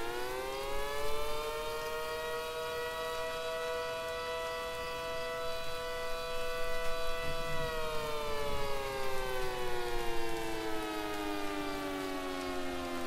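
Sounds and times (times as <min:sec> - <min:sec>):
warning siren two-note chord: 0:00.0 - 0:13.0.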